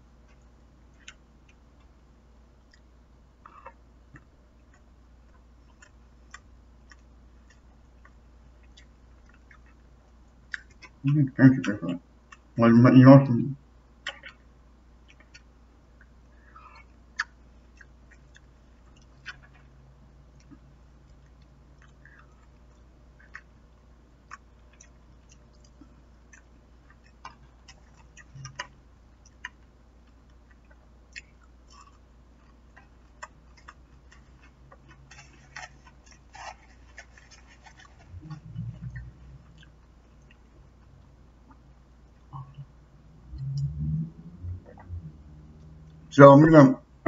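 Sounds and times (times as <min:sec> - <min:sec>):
person chewing food: 0:00.0 - 0:11.2, 0:14.0 - 0:43.8
steady low hum: 0:00.0 - 0:47.0.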